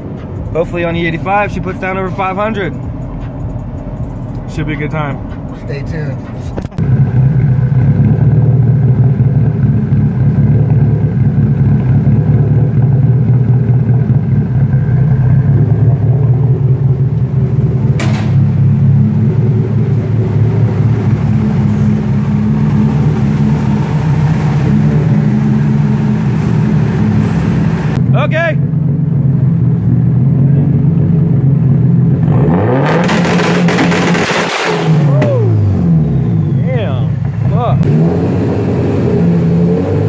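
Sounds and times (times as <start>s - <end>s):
car engine idling: 0.0s - 32.2s, 34.9s - 38.1s.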